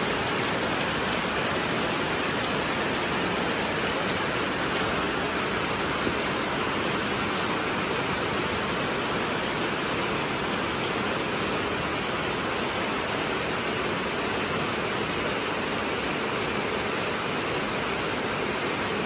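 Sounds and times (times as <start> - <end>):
heavy rain on foliage: 0.0 - 19.0.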